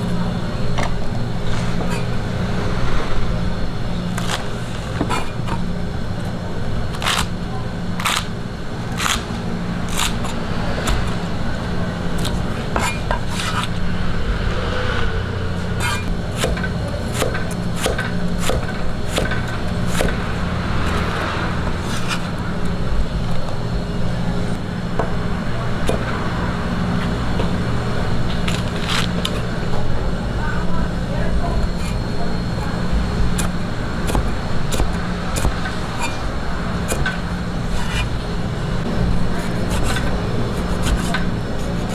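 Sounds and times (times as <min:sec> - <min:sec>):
low hum: 0:00.0 - 0:06.9, 0:08.4 - 0:41.9.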